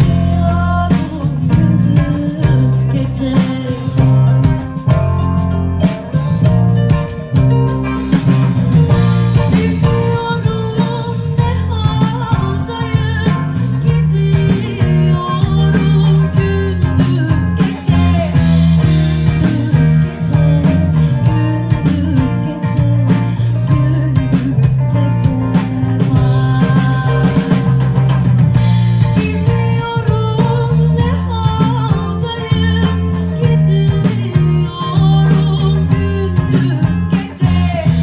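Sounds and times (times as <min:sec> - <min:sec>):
woman singing: 0:00.0 - 0:07.5, 0:08.8 - 0:28.0, 0:28.6 - 0:38.0
drum kit: 0:00.0 - 0:38.0
electric bass: 0:00.0 - 0:38.0
electric guitar: 0:00.0 - 0:38.0.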